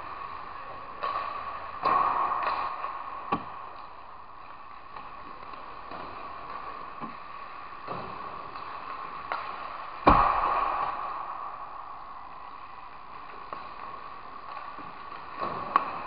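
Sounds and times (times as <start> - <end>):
hockey pucks and sticks clacking: 0.0 - 16.0
sharp puck crack echoing: 0.9 - 16.0.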